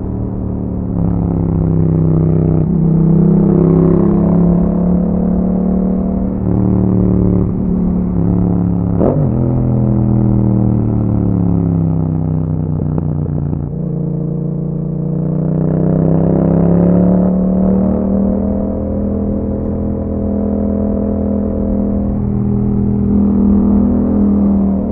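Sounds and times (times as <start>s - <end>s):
motorcycle engine: 0.0s - 24.9s.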